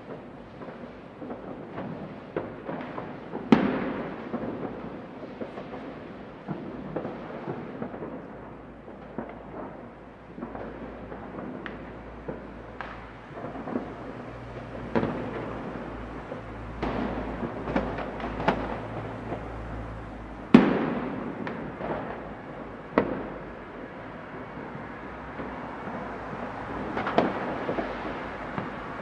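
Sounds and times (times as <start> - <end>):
distant fireworks rumble and crackle: 0.0 - 29.0
fireworks bangs: 0.0 - 29.0.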